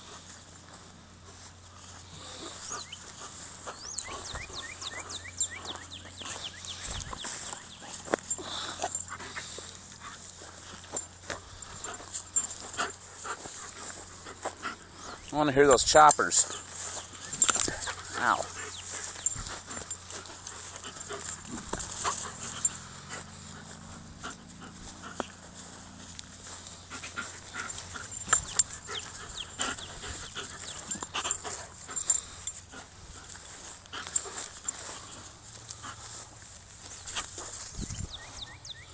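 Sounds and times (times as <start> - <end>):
dog panting: 0.2 - 38.9.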